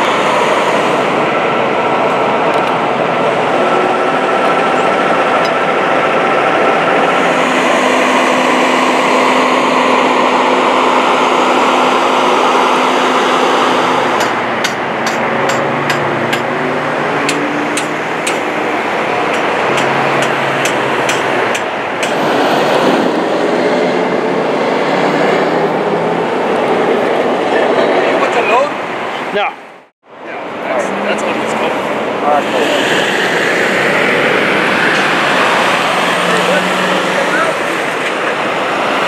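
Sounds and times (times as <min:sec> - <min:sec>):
heavy vehicle rumble: 0:00.0 - 0:39.0.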